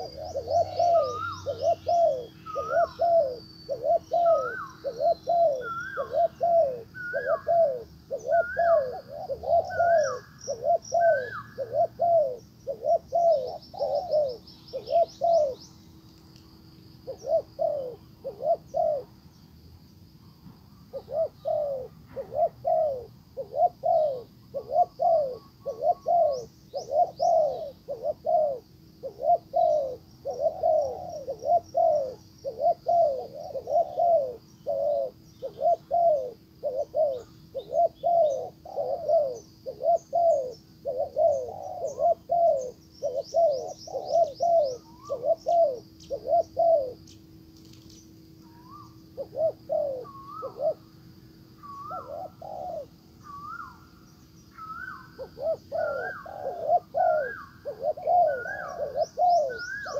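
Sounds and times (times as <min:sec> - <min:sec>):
dove cooing: 0:00.0 - 0:15.7, 0:17.0 - 0:19.2, 0:20.9 - 0:47.8, 0:48.4 - 0:53.9, 0:54.5 - 0:59.9
small birds chirping faintly: 0:00.0 - 0:59.9.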